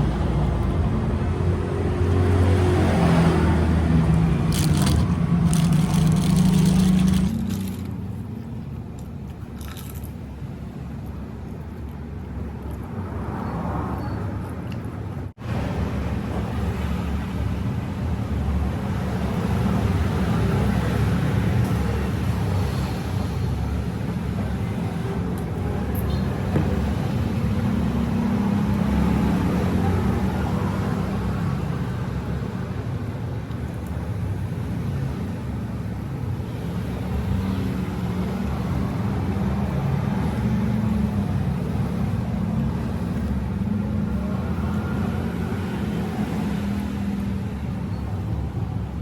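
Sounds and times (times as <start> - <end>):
low rumble of road traffic: 0.0 - 49.0.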